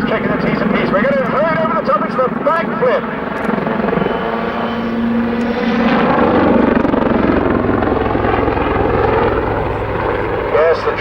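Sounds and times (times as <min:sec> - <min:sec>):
helicopter rotor pulsing: 0:00.0 - 0:11.0.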